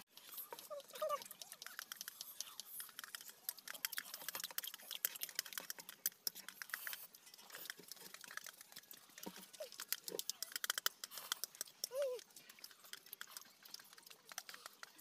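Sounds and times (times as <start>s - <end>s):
chewing smacks: 0.0s - 15.0s.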